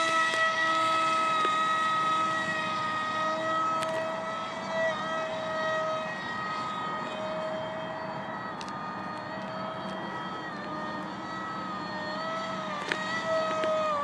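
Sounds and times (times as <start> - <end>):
electric motor propeller whine: 0.0 - 14.0.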